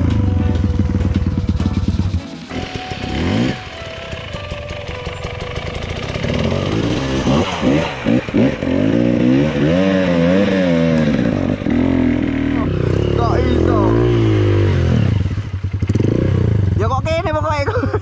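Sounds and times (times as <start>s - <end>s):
dirt bike engine revving: 0.0s - 17.5s.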